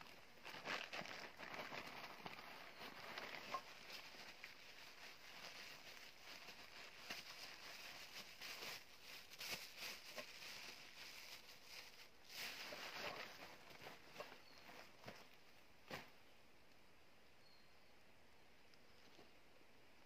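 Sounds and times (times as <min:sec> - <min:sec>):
plastic bag crinkling: 0:00.0 - 0:16.1
hands rummaging in fabric backpack: 0:00.0 - 0:16.2.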